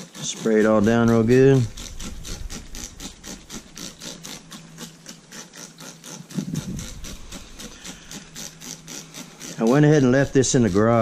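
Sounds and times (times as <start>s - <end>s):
spray bottle spritzing: 0.0s - 11.0s.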